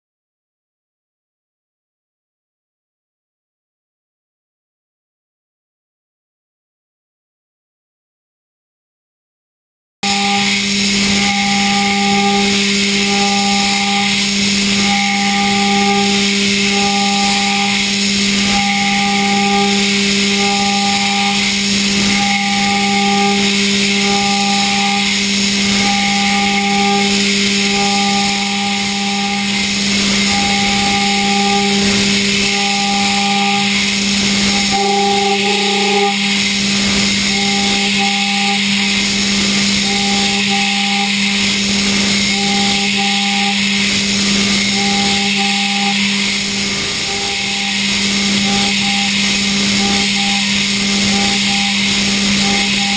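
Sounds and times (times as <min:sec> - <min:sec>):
milling machine spindle whine: 0:10.0 - 0:52.9
pulsing high cutter tone: 0:10.0 - 0:52.9.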